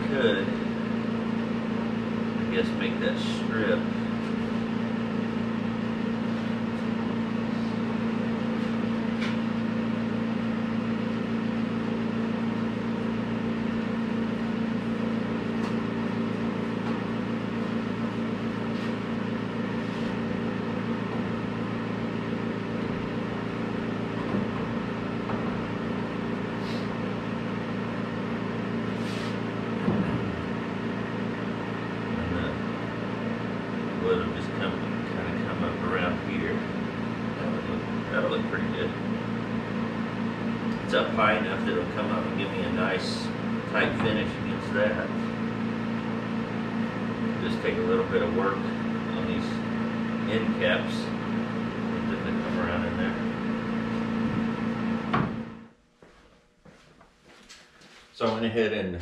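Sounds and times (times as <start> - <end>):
fan motor hum: 0.0 - 59.0.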